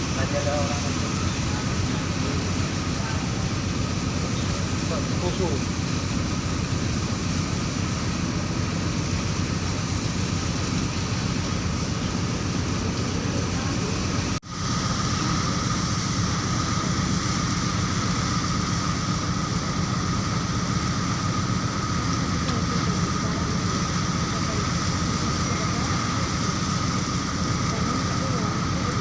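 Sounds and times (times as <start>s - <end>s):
ship engine rumble: 0.0s - 29.0s
thin steady hum: 0.0s - 29.0s.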